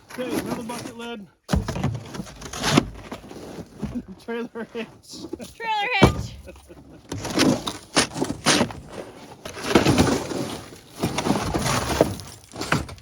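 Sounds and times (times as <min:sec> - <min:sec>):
shovel scraping ice: 0:00.1 - 0:01.0, 0:02.1 - 0:04.1, 0:05.2 - 0:13.0.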